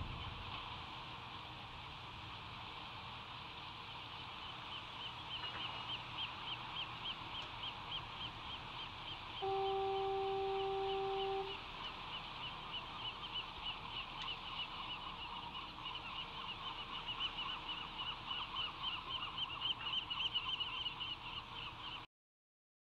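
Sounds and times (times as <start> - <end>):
seabirds calling: 2.6 - 22.1.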